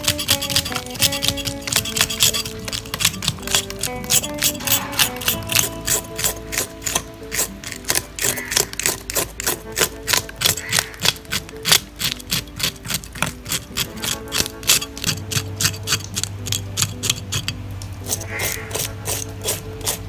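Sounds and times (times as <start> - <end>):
background music: 0.0 - 20.0
fish scaler scraping scales: 0.0 - 20.0.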